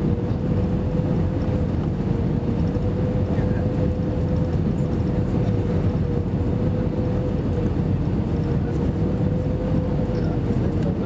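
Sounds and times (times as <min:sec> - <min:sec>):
airliner engines and rushing air: 0:00.0 - 0:11.0.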